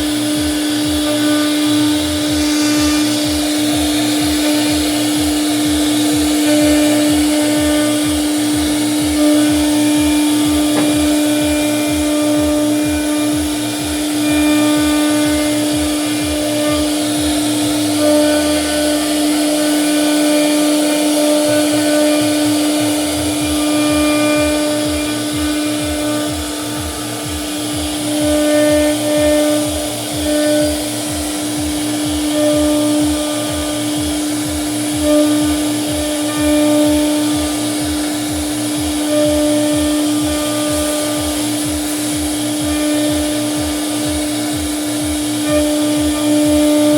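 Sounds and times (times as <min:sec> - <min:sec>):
low pulsing of cutting passes: 0:00.0 - 0:46.9
router spindle whining: 0:00.0 - 0:46.9.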